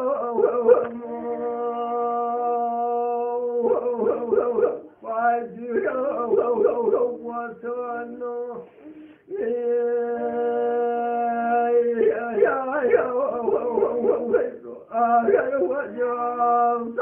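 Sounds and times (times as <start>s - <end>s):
man singing melismatic vocals: 0.0s - 17.0s.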